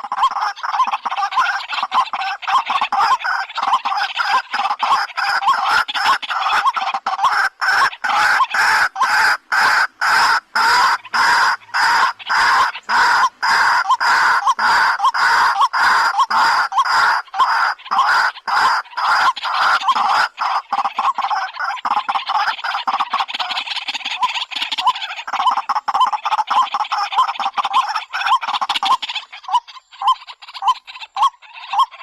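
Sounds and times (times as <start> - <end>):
waterhen harsh croaking calls: 0.0 - 32.0.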